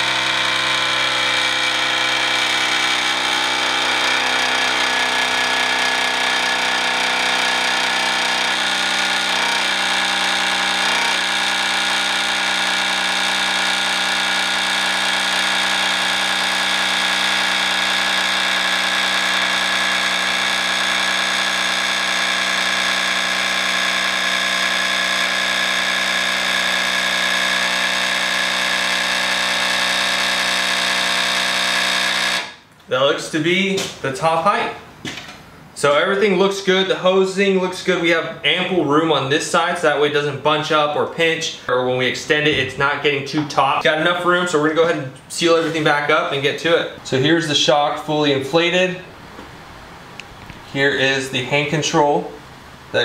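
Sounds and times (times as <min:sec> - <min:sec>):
air compressor electric whine: 0:00.0 - 0:32.9, 0:42.2 - 0:53.0.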